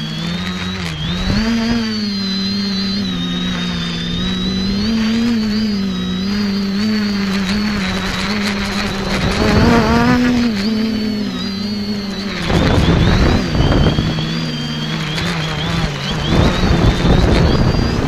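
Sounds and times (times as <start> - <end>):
quadcopter buzzing hum: 0.0 - 18.0.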